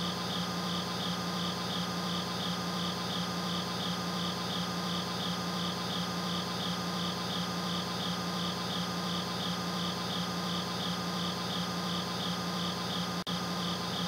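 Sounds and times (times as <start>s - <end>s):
insects chirping: 0.0s - 14.0s
steady low hum: 0.0s - 14.0s.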